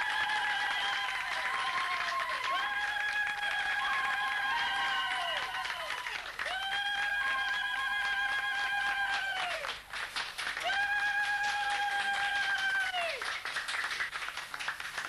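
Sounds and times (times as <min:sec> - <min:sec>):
applause: 0:00.0 - 0:15.0.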